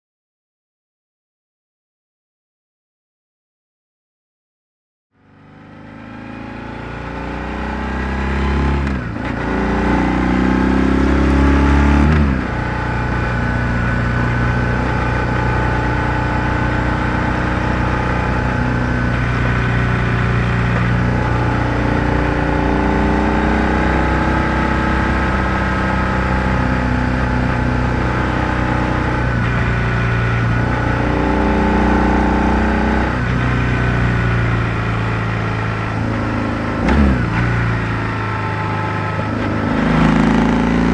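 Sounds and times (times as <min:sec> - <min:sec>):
motorcycle engine revving: 0:05.2 - 0:40.9.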